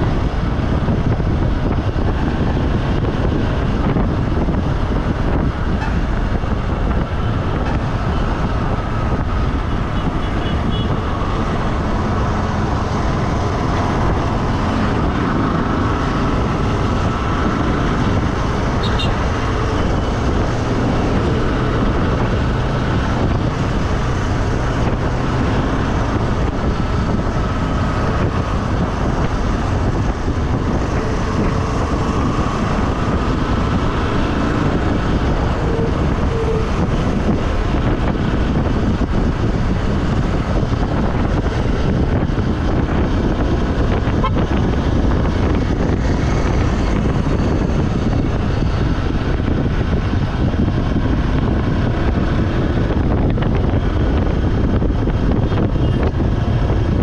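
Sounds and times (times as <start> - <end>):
road vehicle rumbling: 0.0 - 57.0.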